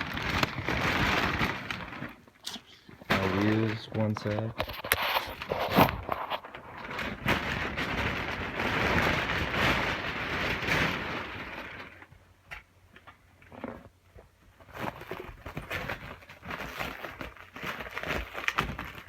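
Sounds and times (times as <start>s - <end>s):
plastic packaging crinkling: 0.0s - 12.1s, 14.6s - 19.0s.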